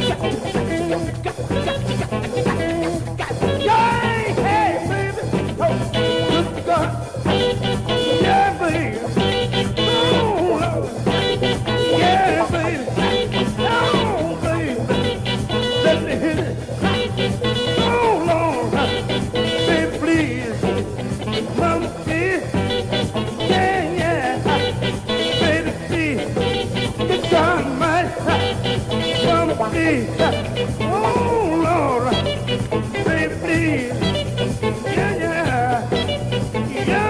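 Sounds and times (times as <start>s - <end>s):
bass and drum groove: 0.0s - 37.0s
lead guitar bending notes: 0.0s - 37.0s.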